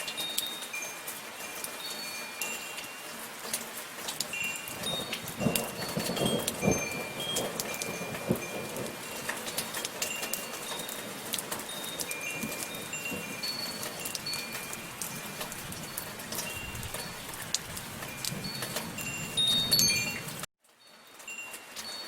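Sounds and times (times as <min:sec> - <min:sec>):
soft rain pattering: 0:00.0 - 0:22.0
wind chimes tinkling: 0:00.0 - 0:22.0.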